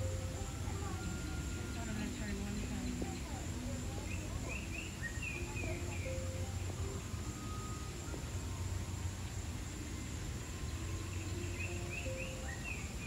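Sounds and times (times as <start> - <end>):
bird chirps: 0.0 - 8.4, 9.9 - 13.0
insect drone: 0.0 - 13.0.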